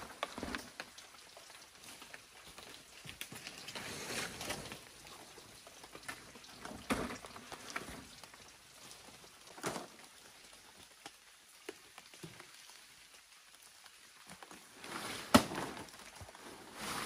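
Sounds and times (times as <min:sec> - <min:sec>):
banana leaves rustling and crackling: 0:00.0 - 0:17.0.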